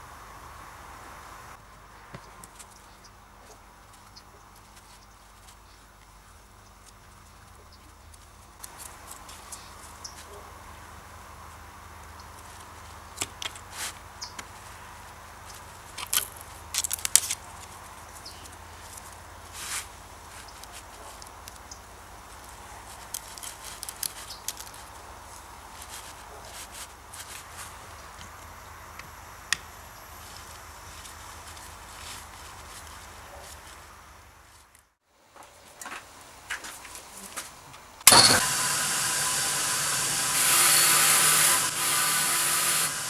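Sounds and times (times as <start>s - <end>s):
faint background noise: 0.0s - 38.1s.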